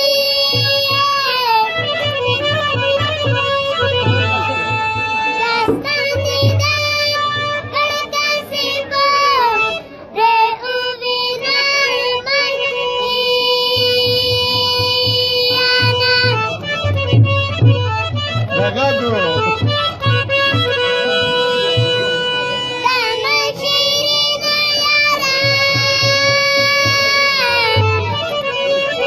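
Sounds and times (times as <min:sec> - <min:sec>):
boy singing: 0:00.0 - 0:17.8, 0:20.0 - 0:29.0
held instrumental notes: 0:00.0 - 0:29.0.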